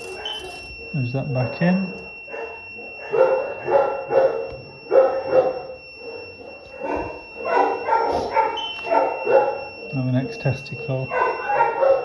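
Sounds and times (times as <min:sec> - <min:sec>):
dog barking: 0:00.0 - 0:10.0, 0:11.1 - 0:12.0
high-pitched electronic tone: 0:00.0 - 0:11.6.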